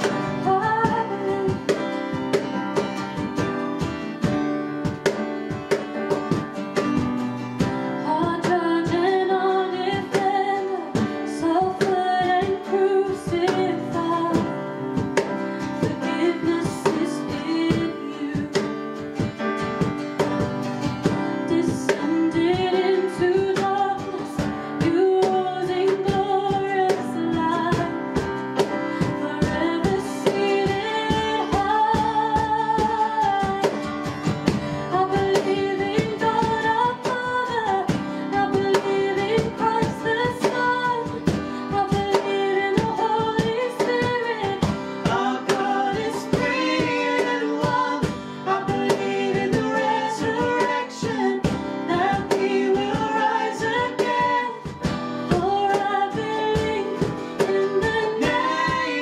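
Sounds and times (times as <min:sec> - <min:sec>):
person singing: 0:00.0 - 0:02.0, 0:08.0 - 0:14.7, 0:15.3 - 0:18.8, 0:21.4 - 0:33.9, 0:34.8 - 0:59.0
strummed acoustic guitar: 0:00.0 - 0:59.0.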